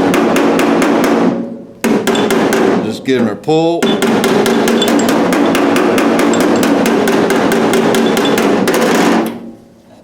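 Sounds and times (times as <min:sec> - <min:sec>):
hammer tapping on sheet metal: 0:00.0 - 0:03.0, 0:03.8 - 0:09.5.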